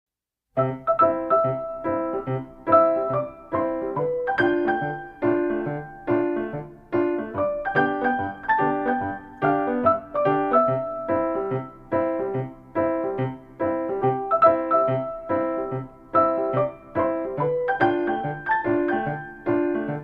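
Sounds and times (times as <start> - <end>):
bouncy piano melody: 0.6 - 20.0.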